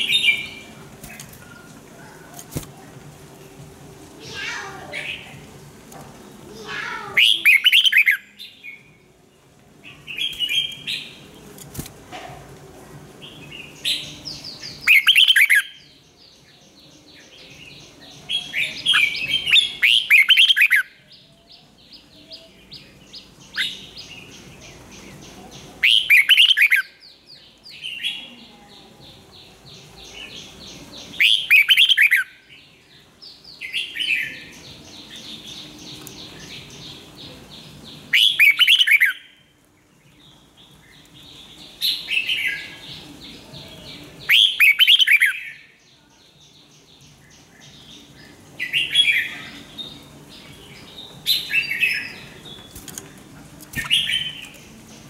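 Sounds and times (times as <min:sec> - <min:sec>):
bird singing warbled phrases: 0:00.0 - 0:11.9, 0:13.2 - 0:55.0.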